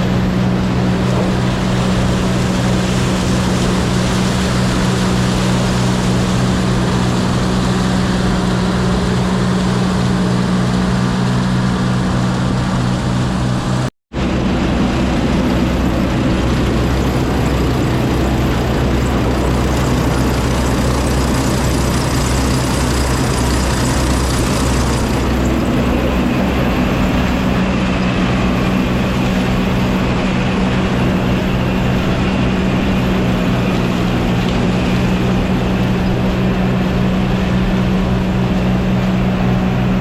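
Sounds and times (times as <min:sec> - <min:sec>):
farm machinery engine running: 0:00.0 - 0:40.0.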